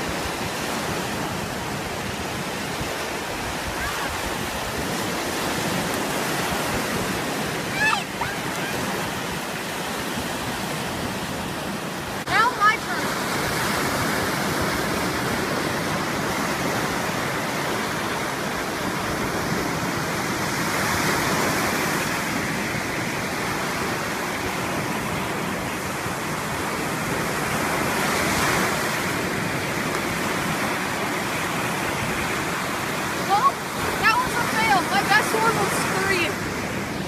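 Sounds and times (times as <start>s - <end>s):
waves breaking on sandy shore: 0.0s - 37.0s.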